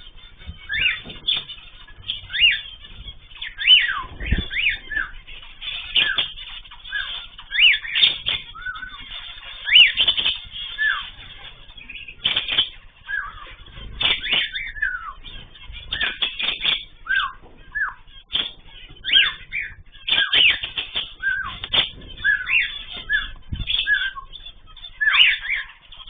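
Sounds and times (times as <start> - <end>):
small birds chirping: 0.0 - 26.0
wing flutters: 0.0 - 26.0.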